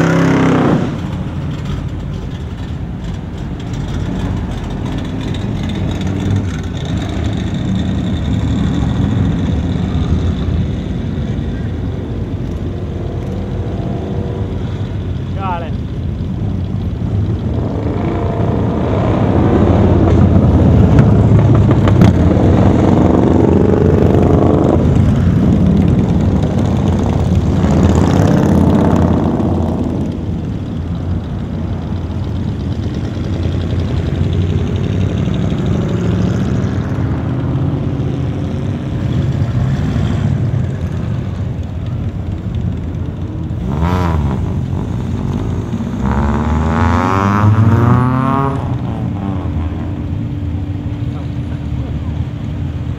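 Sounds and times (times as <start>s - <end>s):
car engines rumbling slowly: 0.0s - 52.9s
motorcycle trike passing: 0.0s - 52.9s.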